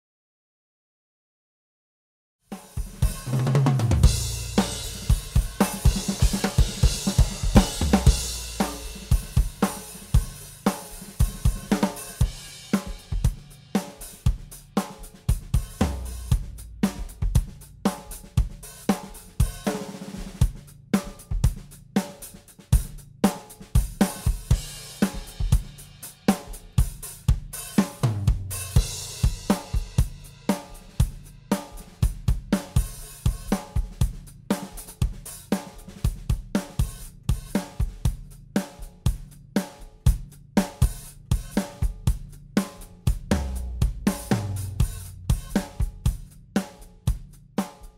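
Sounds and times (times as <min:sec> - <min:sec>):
drum kit groove: 0:02.5 - 0:47.9.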